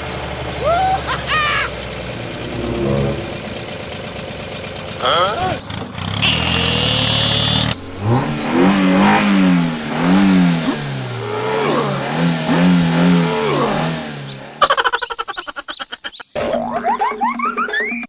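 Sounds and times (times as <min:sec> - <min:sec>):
engine revving: 0:00.0 - 0:14.8.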